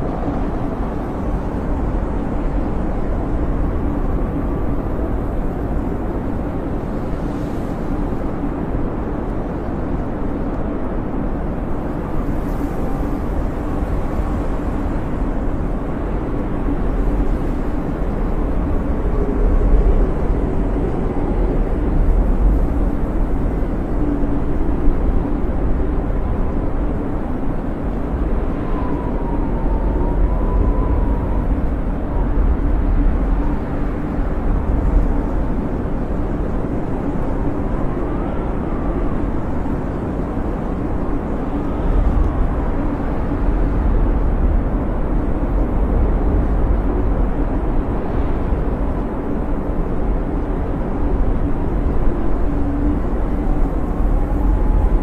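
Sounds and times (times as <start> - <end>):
wind howling with deep rumble: 0.0 - 55.0.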